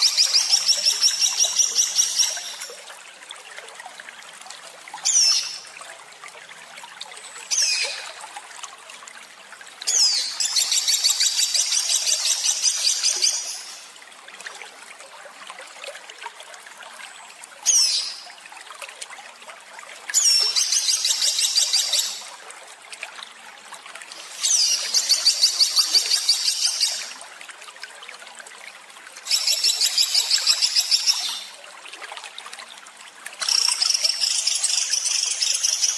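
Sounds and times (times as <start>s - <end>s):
trickling water hiss: 0.0s - 35.9s.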